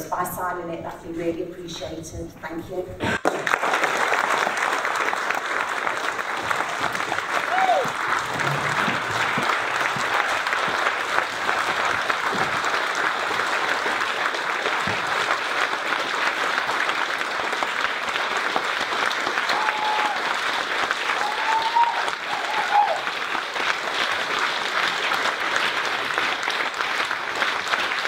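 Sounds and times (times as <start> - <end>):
audience applauding: 3.1 - 28.0.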